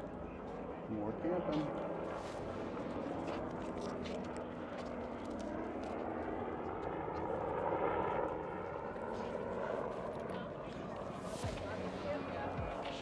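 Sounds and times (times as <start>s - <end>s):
airplane flying overhead: 0.0s - 13.0s.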